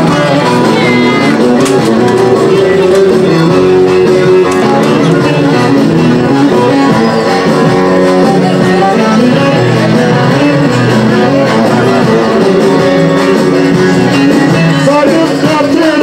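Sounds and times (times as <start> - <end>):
instrumental music with plucked strings: 0.0 - 16.0.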